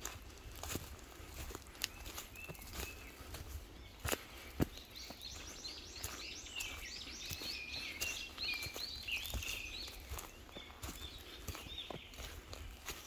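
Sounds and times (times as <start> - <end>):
footsteps crunching on path: 0.0 - 13.0
bird chirping song: 0.1 - 13.0.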